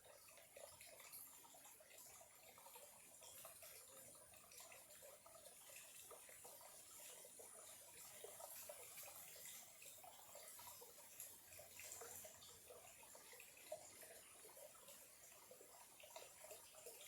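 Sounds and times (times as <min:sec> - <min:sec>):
small stream trickling: 0:00.0 - 0:17.0.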